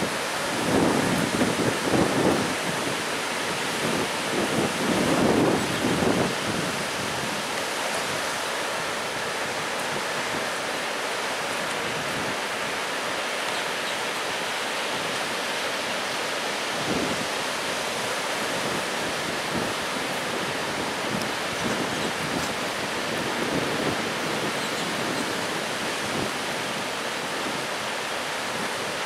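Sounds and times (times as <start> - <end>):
storm surf breaking on beach: 0.0 - 29.0.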